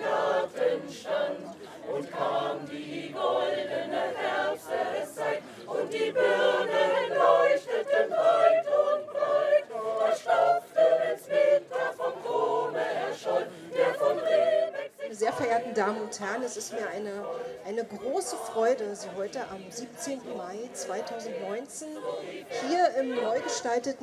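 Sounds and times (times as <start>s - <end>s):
mixed choir singing: 0.0s - 24.0s.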